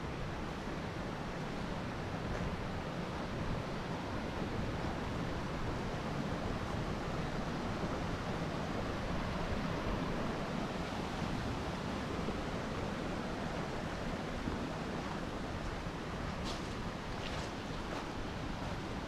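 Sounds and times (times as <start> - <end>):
river rushing over rocks: 0.1 - 19.0.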